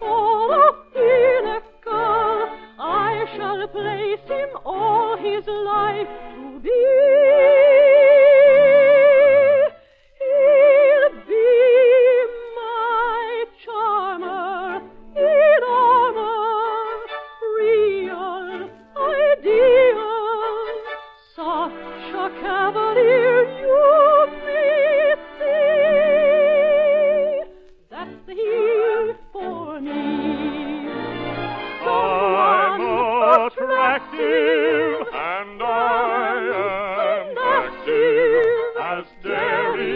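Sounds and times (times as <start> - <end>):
soprano singing with vibrato: 0.0 - 39.9.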